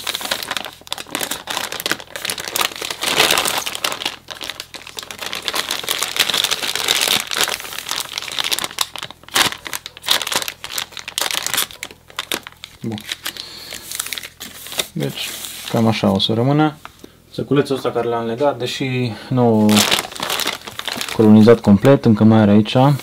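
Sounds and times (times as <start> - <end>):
plastic bag crinkling: 0.0 - 16.2, 19.5 - 22.2.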